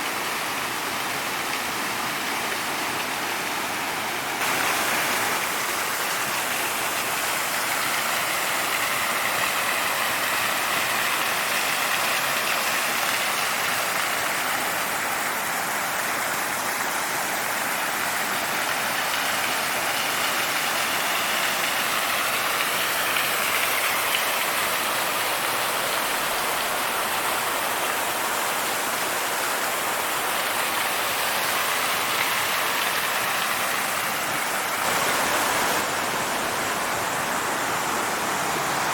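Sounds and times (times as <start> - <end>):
waterfall and creek rushing: 0.0 - 38.9.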